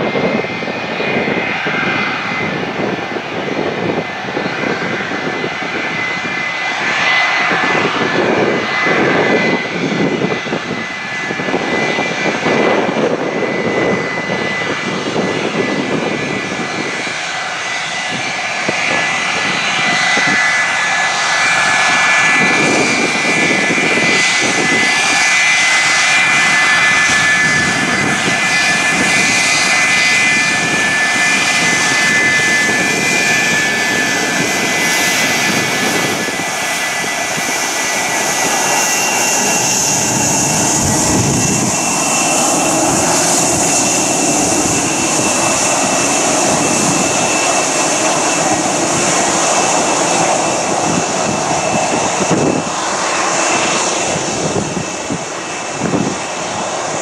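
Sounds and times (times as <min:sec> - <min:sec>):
jet engine rushing noise: 0:00.0 - 0:57.0
jet engine whine: 0:00.0 - 0:57.0.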